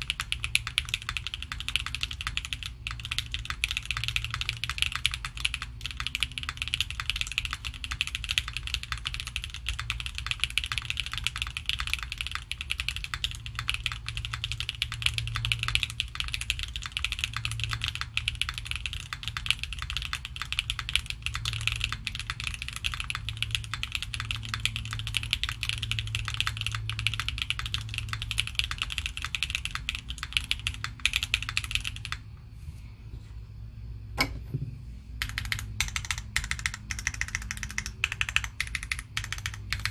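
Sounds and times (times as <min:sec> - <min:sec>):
fast typing on keyboard: 0:00.0 - 0:32.3, 0:35.2 - 0:39.9.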